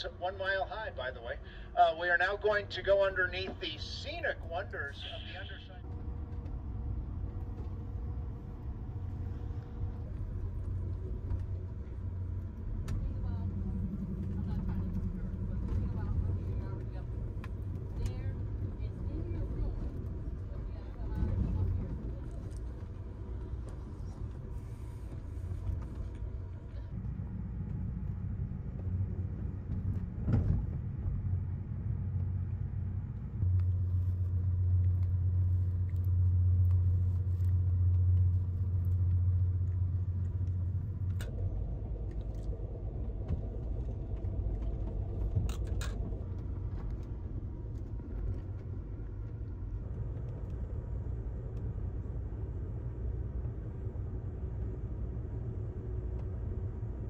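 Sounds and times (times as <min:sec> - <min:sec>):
train rumble from inside: 0:00.0 - 0:57.0.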